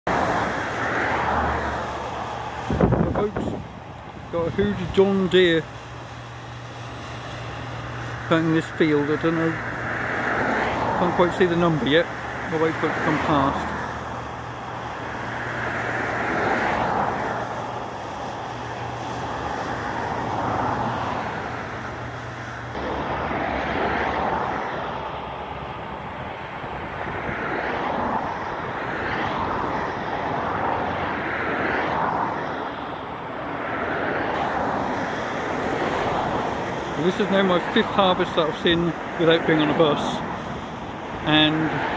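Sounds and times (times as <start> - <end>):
combine harvester engine and threshing: 0.1 - 41.9.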